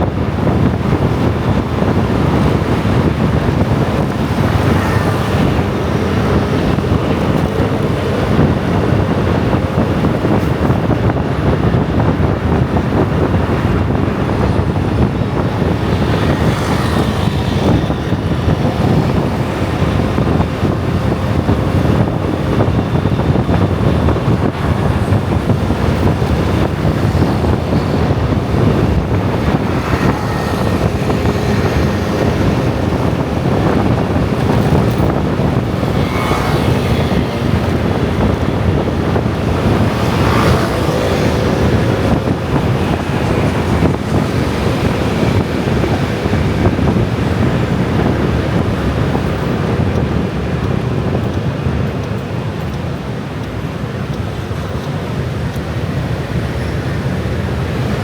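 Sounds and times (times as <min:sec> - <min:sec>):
motorbikes passing by: 0:00.0 - 0:58.0
scooter and motorbike traffic: 0:00.0 - 0:58.0
wind buffeting microphone: 0:00.0 - 0:58.0.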